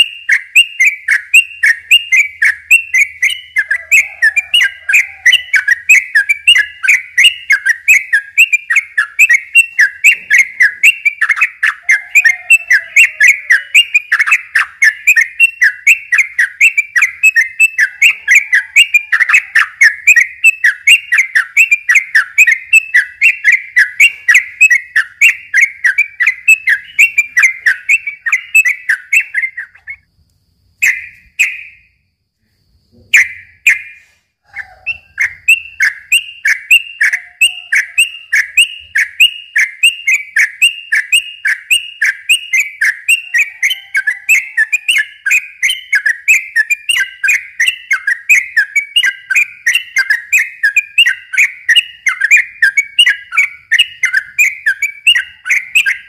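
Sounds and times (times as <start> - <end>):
bulbul singing whistled chirps: 0.0 - 56.0.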